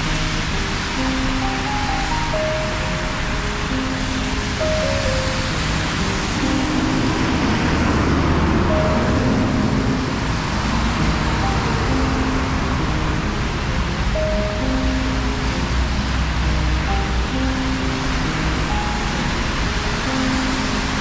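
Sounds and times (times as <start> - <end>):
road traffic rush: 0.0 - 21.0
soft background music: 0.0 - 21.0.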